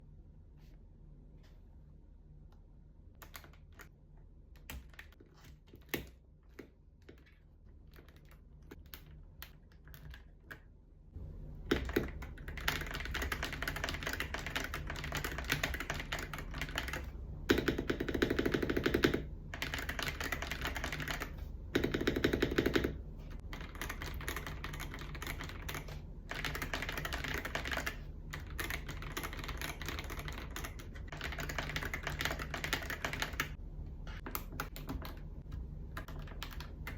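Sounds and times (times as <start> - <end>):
mechanical keyboard typing: 3.2 - 3.9, 4.5 - 10.6, 11.7 - 35.3, 35.9 - 36.9.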